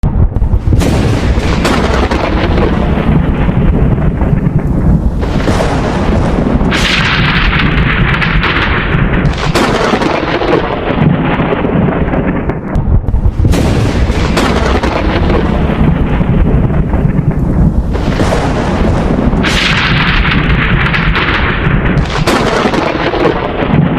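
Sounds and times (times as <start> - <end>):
thunder rumbling: 0.0 - 23.9
sharp thunder cracks: 0.1 - 23.9.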